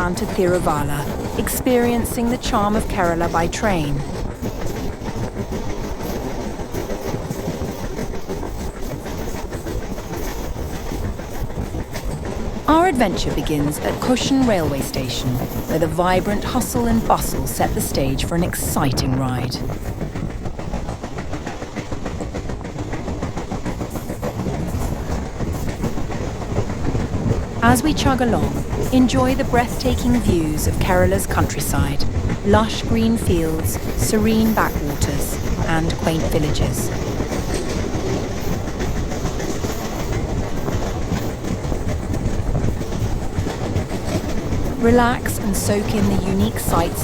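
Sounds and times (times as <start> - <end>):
passenger train rumbling: 0.0 - 47.0
wheels clicking on rails: 0.0 - 47.0.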